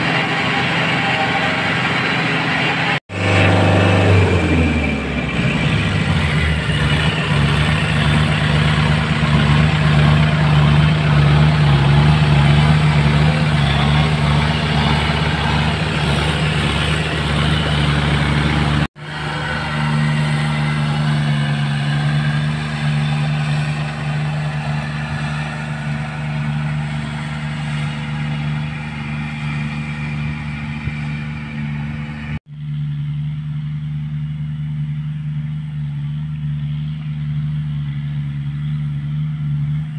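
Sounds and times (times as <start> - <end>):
rotary tiller rushing noise: 0.0 - 32.4
tractor diesel engine droning: 0.0 - 39.9.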